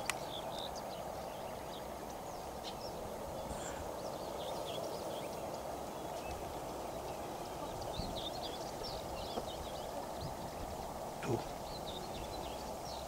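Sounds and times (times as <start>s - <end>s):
small birds chirping: 0.0s - 13.0s
steady background hiss: 0.0s - 13.0s.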